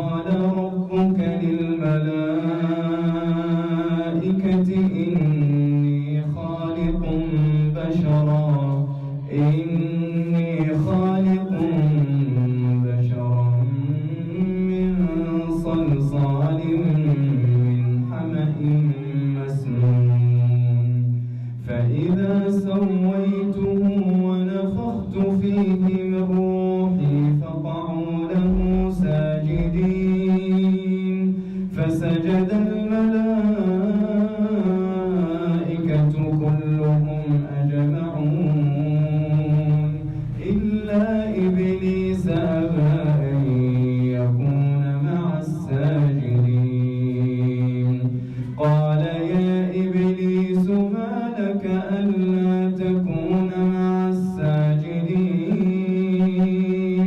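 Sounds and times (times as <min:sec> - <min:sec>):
man chanting melodically: 0:00.0 - 0:57.0.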